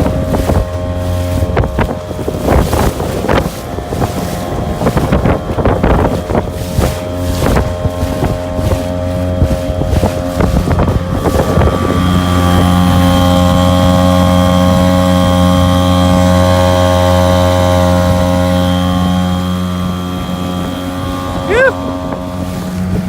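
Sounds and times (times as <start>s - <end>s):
outboard motor humming: 0.0s - 23.0s.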